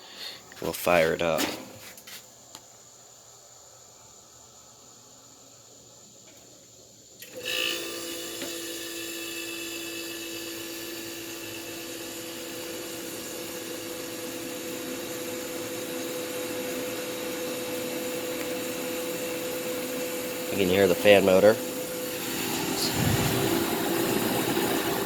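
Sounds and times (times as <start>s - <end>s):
dehumidifier fan humming: 0.2s - 25.0s.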